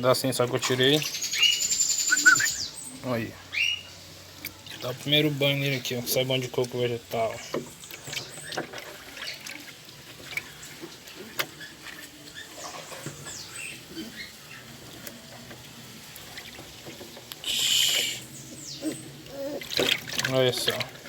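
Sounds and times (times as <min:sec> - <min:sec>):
water dripping and pattering: 0:00.0 - 0:21.0.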